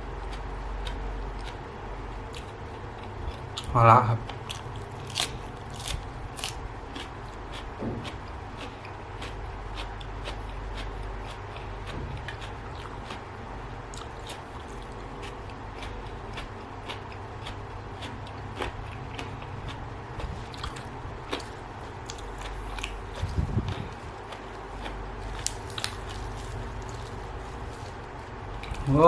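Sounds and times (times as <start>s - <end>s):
low hum: 0.0s - 29.0s
person chewing food: 0.2s - 29.0s.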